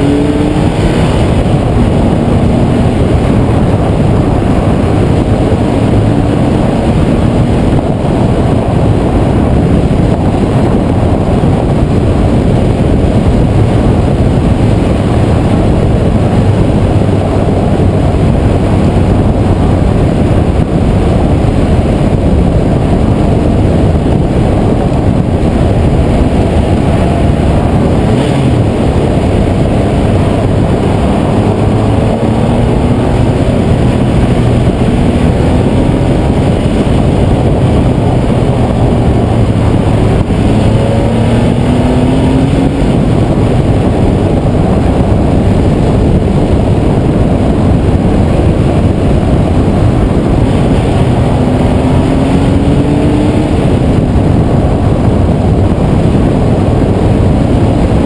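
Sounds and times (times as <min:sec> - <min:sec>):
car engine revving: 0:00.0 - 0:58.0
wind and road noise: 0:00.0 - 0:58.0.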